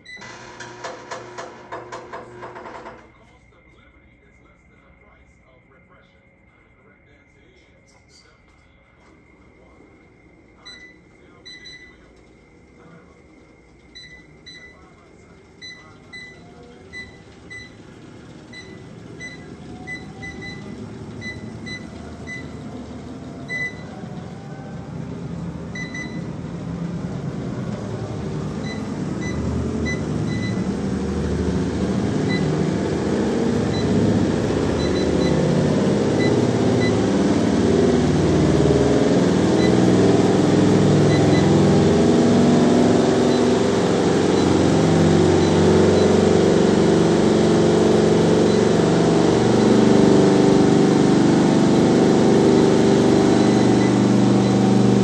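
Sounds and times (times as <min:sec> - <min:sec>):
treadmill console beeping: 0:00.0 - 0:07.2, 0:08.2 - 0:55.0
treadmill belt and motor running: 0:00.0 - 0:07.5, 0:08.2 - 0:55.0.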